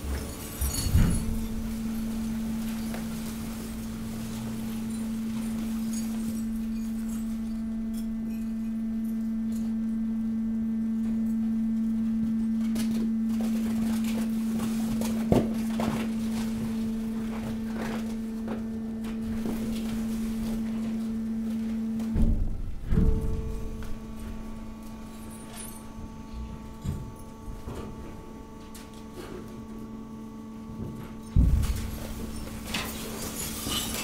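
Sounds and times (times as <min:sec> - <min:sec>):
waste compactor humming: 0:00.0 - 0:34.0.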